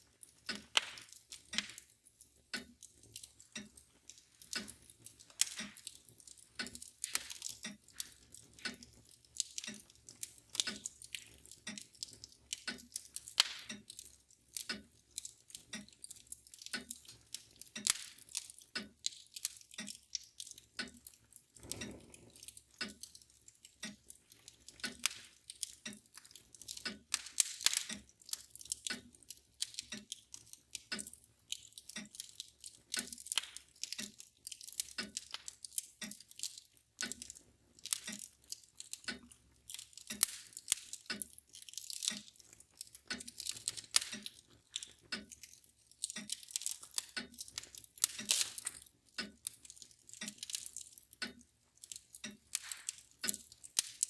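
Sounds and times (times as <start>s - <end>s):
clock ticking: 0.0s - 54.0s
wood fire crackling and popping: 0.0s - 54.0s.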